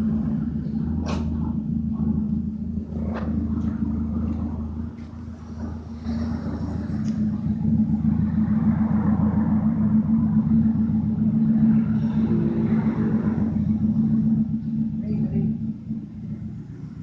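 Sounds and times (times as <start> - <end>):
car engine exhaust rumble: 0.0 - 17.0.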